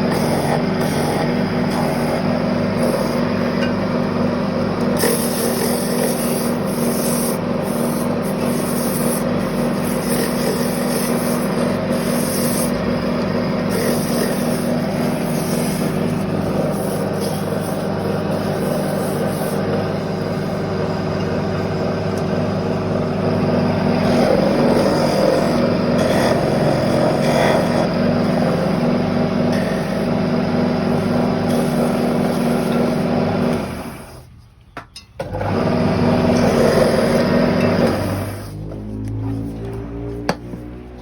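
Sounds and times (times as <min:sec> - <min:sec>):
wood lathe motor running: 0:00.0 - 0:34.2, 0:35.2 - 0:41.0
turning tool cutting wood: 0:00.0 - 0:34.3, 0:35.2 - 0:41.0.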